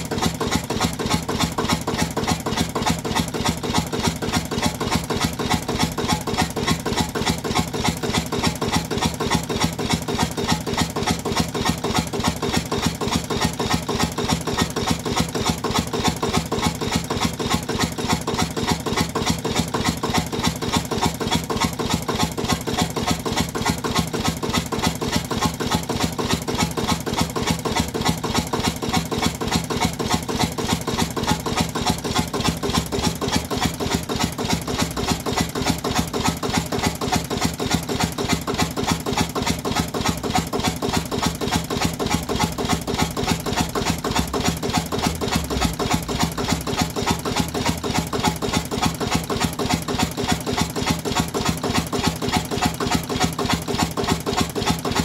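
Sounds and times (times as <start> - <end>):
diesel stationary engine running: 0.0 - 55.0.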